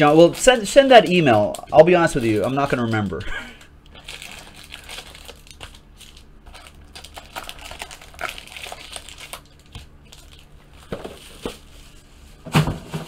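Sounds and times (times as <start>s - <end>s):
foil packs crinkling: 0.0s - 3.2s, 3.9s - 13.0s.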